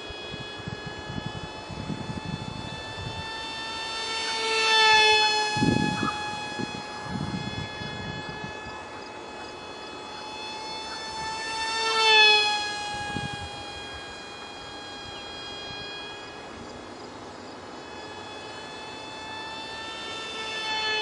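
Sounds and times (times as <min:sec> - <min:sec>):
model jet propeller whining: 0:00.0 - 0:21.0.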